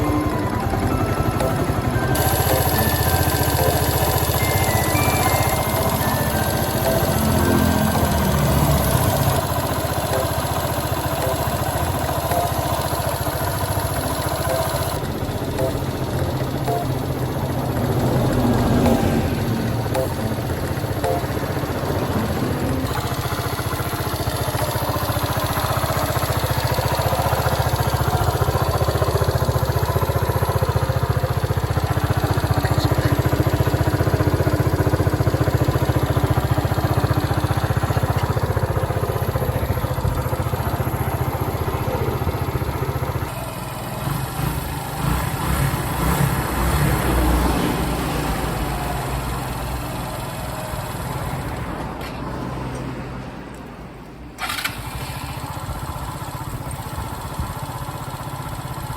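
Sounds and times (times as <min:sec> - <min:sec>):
motorcycle engine running: 0:00.0 - 0:51.6, 0:54.4 - 0:58.9.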